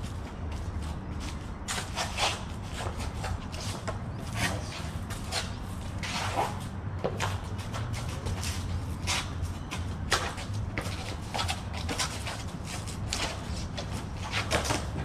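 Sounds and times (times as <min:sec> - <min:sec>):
scuffs and knocks of sparring: 0:00.0 - 0:15.0.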